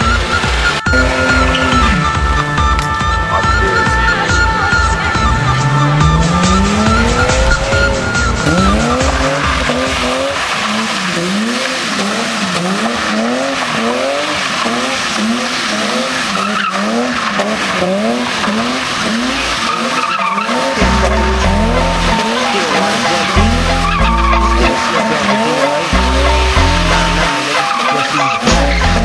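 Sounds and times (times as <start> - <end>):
car engine revving hard: 0.0 - 29.0
tyres squealing: 0.0 - 29.0.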